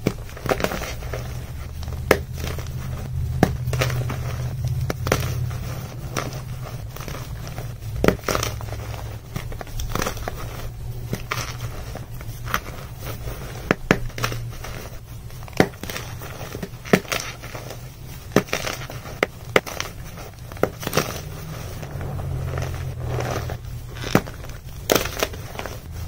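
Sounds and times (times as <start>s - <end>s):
chalk blocks cracking: 0.0s - 26.0s
chalk crunching by hand: 0.0s - 26.0s
low hum: 0.9s - 16.6s, 19.0s - 26.0s.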